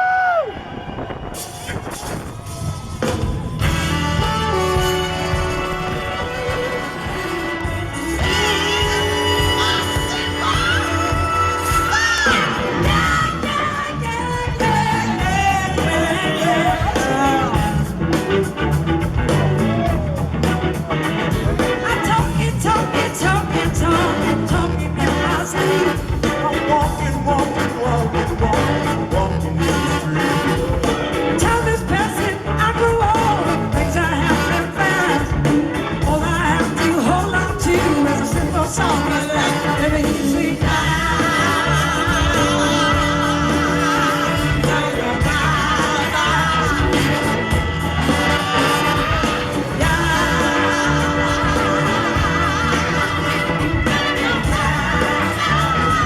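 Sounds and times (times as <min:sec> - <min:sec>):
live rock band with singing: 0:00.0 - 0:56.0.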